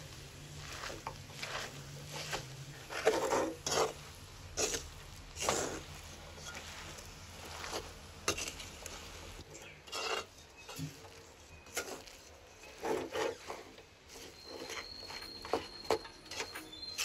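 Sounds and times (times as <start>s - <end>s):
spoon scraping in metal pot: 0.6s - 9.0s, 9.6s - 17.0s.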